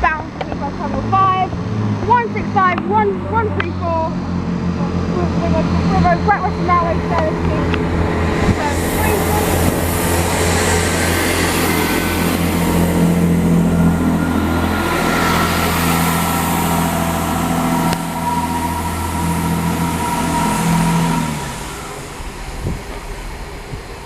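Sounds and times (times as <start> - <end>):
train diesel engine drone: 0.0 - 24.0.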